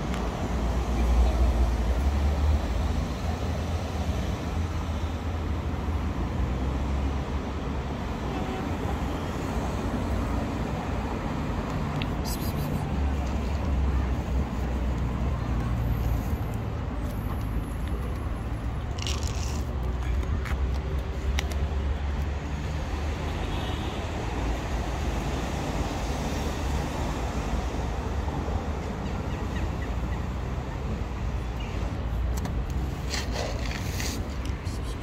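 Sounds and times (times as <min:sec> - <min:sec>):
low street rumble: 0:00.0 - 0:35.0.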